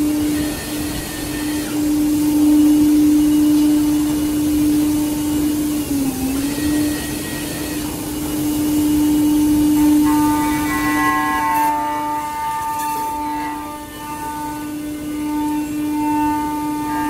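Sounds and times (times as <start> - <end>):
cutter hissing through wood: 0.0 - 17.0
router spindle whine: 0.0 - 17.0.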